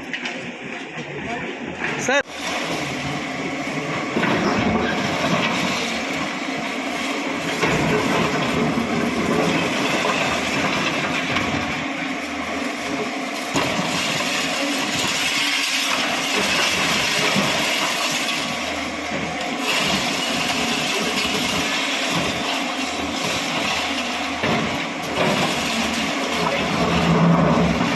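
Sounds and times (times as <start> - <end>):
bulldozer diesel engine under load: 1.6 - 27.9.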